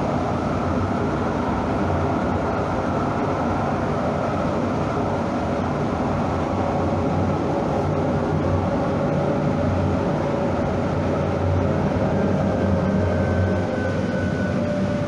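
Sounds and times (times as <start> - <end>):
rail vehicle rumbling: 0.0 - 15.0.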